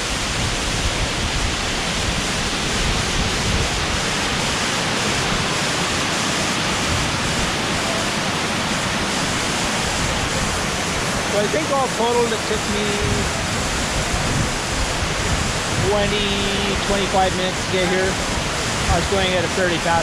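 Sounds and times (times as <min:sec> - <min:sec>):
waterfall crashing into pool: 0:00.0 - 0:20.0.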